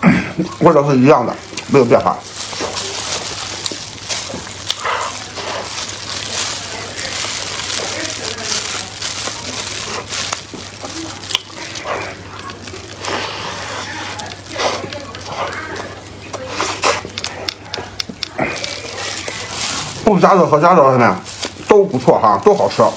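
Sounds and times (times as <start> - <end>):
chewing and wet mouth sounds: 0.0 - 22.9
plastic gloves crinkling: 0.0 - 22.9.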